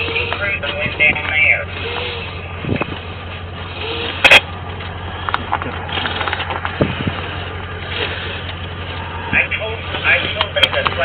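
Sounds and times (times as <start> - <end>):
low vehicle hum: 0.0 - 11.0.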